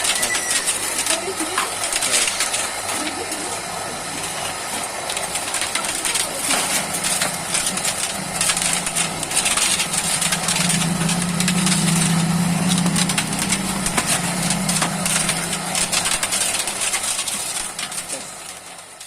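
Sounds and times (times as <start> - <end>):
dense crackle of small clicks: 0.0 - 19.0
motor hum: 0.0 - 19.0.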